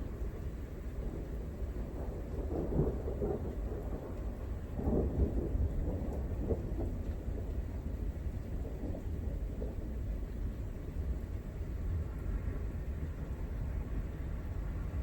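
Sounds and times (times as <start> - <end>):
rain: 0.0 - 15.0
thunder rumbling: 0.0 - 15.0.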